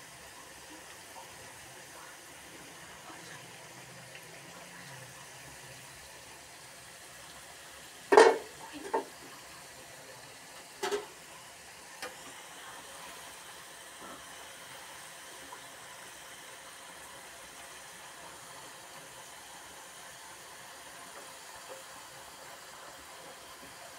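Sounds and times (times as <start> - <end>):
fries sizzling in oil: 0.0 - 23.9.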